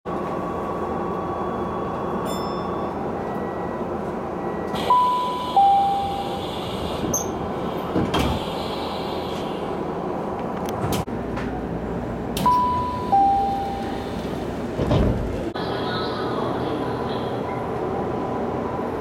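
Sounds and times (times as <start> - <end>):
train car rumble: 0.1 - 19.0.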